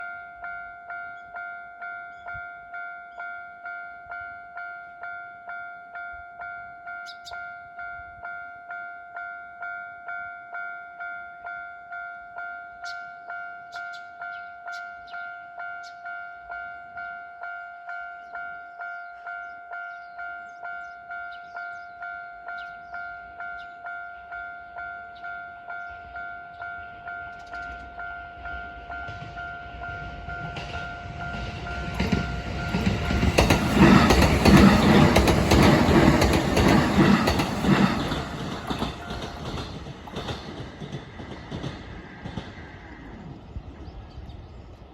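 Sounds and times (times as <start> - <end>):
level crossing warning bell ringing: 0.0 - 40.6
train passing with clattering wheels: 0.0 - 44.9.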